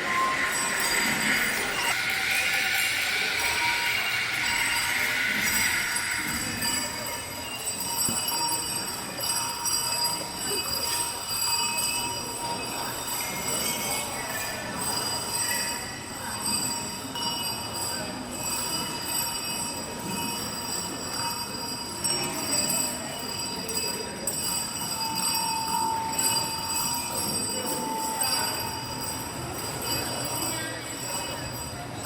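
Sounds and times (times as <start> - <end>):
cowbells ringing: 0.0 - 32.0.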